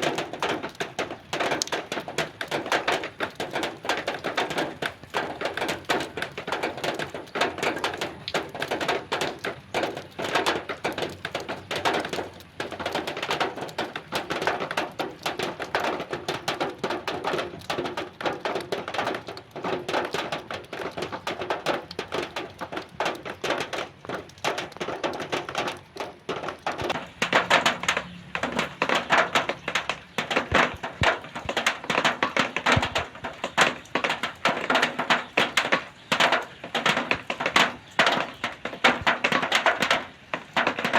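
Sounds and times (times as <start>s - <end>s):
rain on sheet metal: 0.0s - 40.9s.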